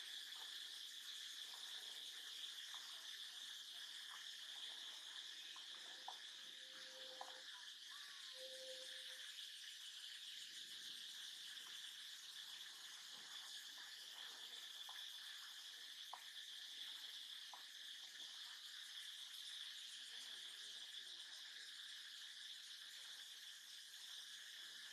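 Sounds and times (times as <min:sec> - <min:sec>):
high-pitched insect chorus: 0:00.0 - 0:24.9.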